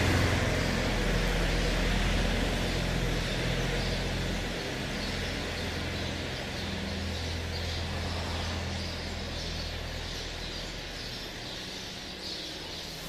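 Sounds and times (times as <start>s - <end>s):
faint bird chirping: 0.0s - 13.0s
low mechanical hum: 0.0s - 13.0s.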